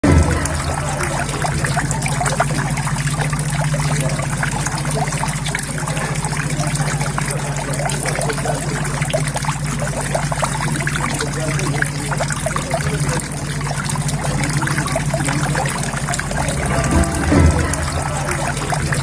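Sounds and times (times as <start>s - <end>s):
steady low hum: 0.0s - 19.0s
water trickling into pond: 0.0s - 19.0s.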